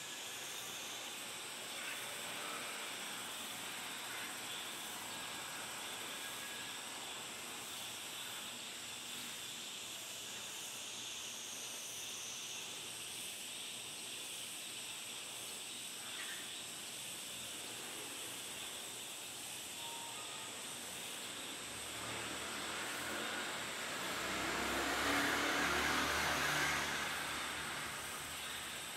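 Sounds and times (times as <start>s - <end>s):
steady outdoor background hiss: 0.0s - 28.9s.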